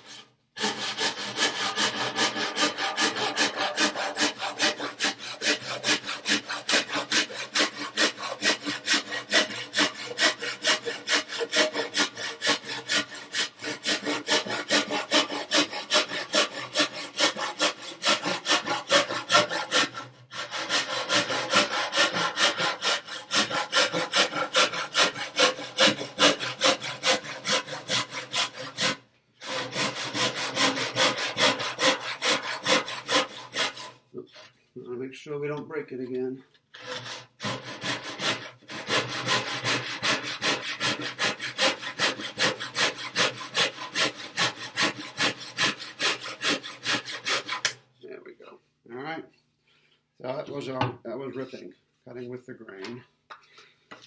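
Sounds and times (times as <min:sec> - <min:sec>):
handsaw rasping through wood: 0:00.0 - 0:34.5, 0:36.7 - 0:47.8.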